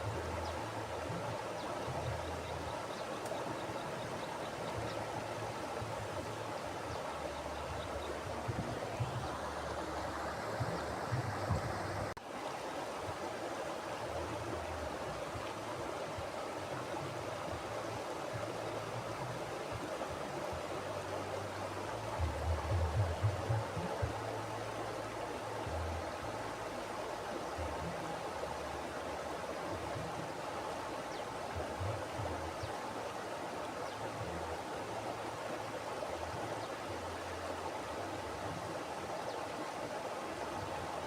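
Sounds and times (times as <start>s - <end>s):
mountain river flowing: 0.0s - 41.0s.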